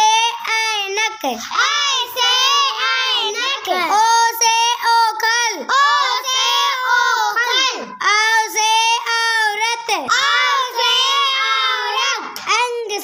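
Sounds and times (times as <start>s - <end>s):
child singing: 0.0s - 13.0s.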